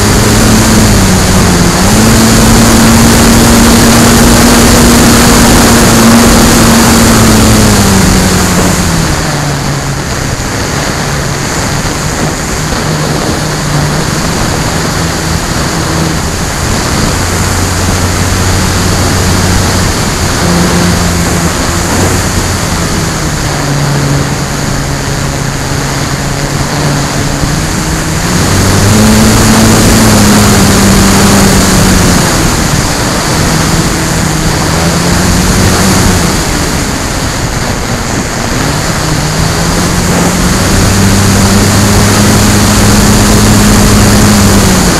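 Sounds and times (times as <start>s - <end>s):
electric motor and propeller hum: 0.0s - 44.9s
wind rush on microphone: 0.0s - 44.9s.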